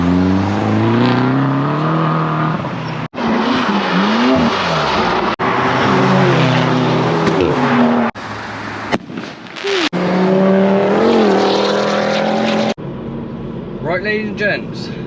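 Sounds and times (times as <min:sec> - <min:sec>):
car engines revving: 0:00.0 - 0:13.8.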